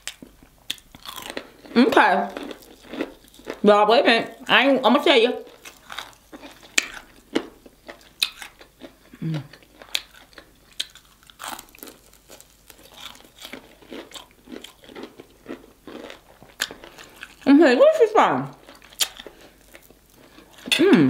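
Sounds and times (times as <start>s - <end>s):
chewing: 0.0s - 3.6s, 5.4s - 17.5s, 18.5s - 20.8s
crunching fried chicken: 0.0s - 3.7s, 5.4s - 17.5s, 18.5s - 20.7s.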